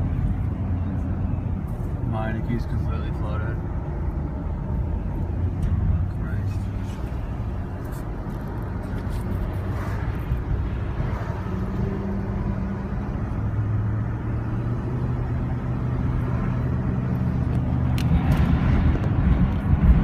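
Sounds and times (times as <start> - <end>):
car engine hum: 0.0 - 20.0
road noise rumble: 0.0 - 20.0.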